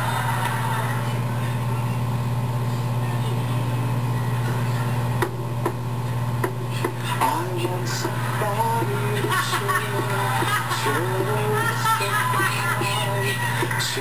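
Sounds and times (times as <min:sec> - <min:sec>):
faint voices: 0:00.0 - 0:05.2, 0:06.6 - 0:14.0
low electrical hum: 0:00.0 - 0:14.0.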